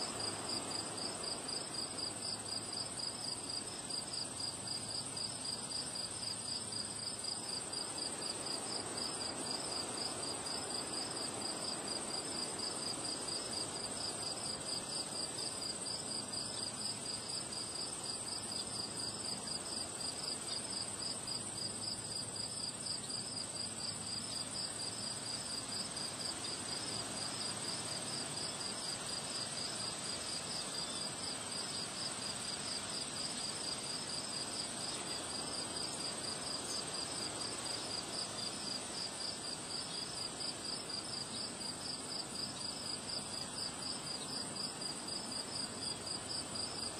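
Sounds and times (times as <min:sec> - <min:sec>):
crickets chirping: 0:00.0 - 0:46.9.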